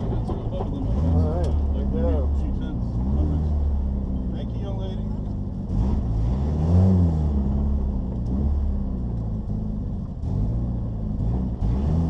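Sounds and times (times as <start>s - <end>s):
turbocharged car engine revving: 0.0s - 12.0s.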